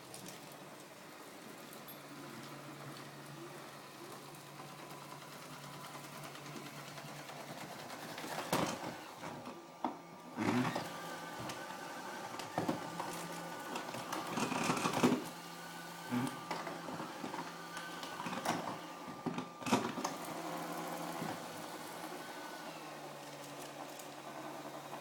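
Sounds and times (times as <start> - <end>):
robot vacuum humming: 0.2 - 25.0.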